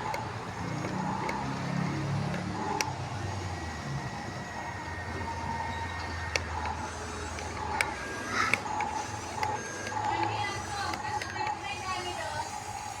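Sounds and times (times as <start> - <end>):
sharp clicks: 0.0 - 11.7
electric motors whining: 0.0 - 13.0.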